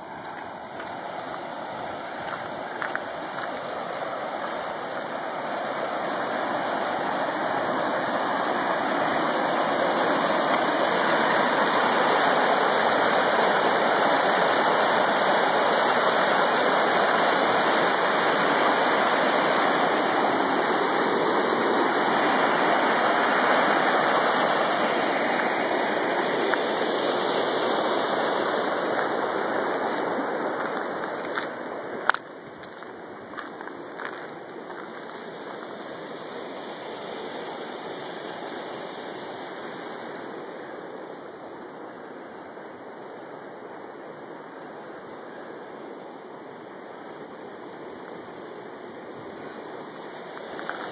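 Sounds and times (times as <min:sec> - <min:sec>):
water rushing through rocky channel: 0:00.0 - 0:50.9.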